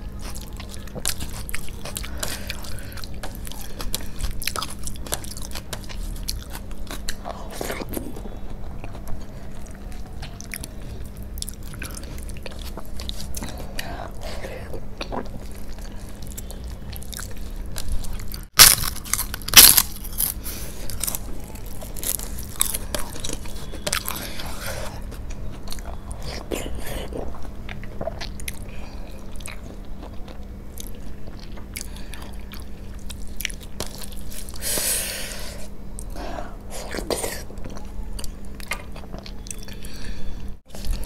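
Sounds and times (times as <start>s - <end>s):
person crunching and chewing: 0.0s - 41.0s.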